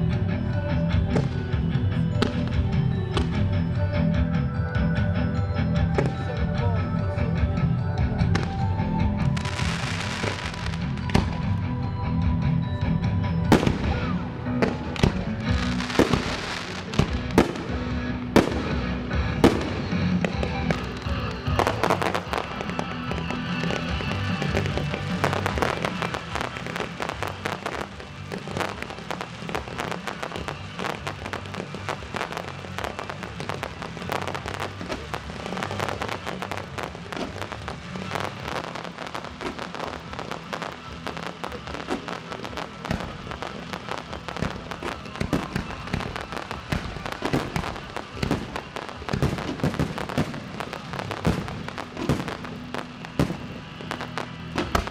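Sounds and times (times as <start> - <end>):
fireworks crackling and popping: 0.0 - 54.9
music: 0.0 - 54.9.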